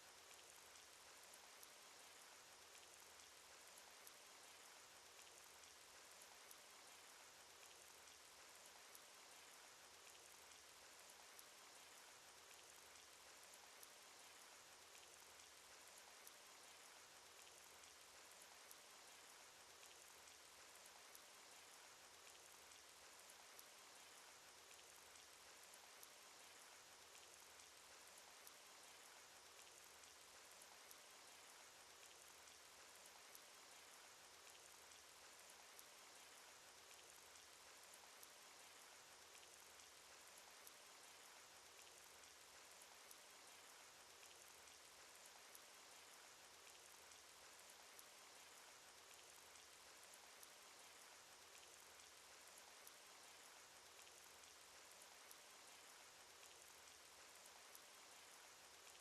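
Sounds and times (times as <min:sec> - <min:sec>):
sharp raindrop ticks: 0:00.0 - 0:59.0.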